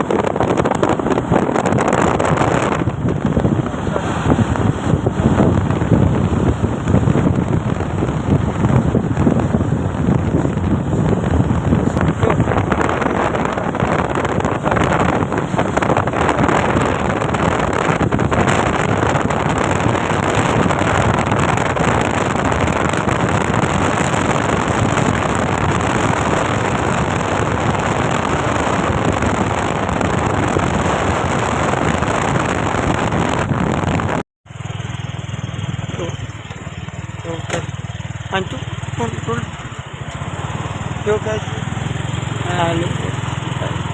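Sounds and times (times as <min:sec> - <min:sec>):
vehicle road noise: 0:00.0 - 0:43.9
wind rushing over microphone: 0:00.0 - 0:43.9.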